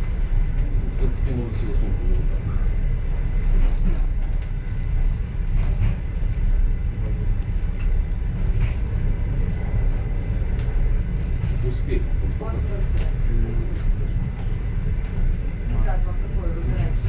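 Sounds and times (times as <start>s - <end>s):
train car rumbling on track: 0.0s - 17.0s.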